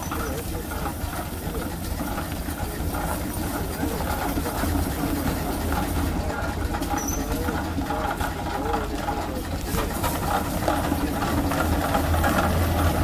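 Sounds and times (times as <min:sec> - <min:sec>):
steam traction engine running: 0:00.0 - 0:13.0.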